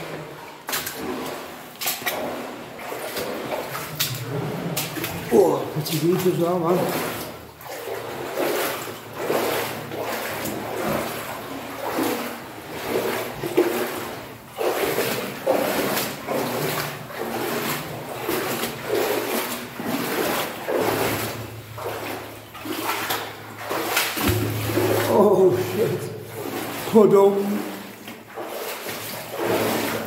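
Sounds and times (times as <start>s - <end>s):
boots wading through water: 0.0s - 30.0s.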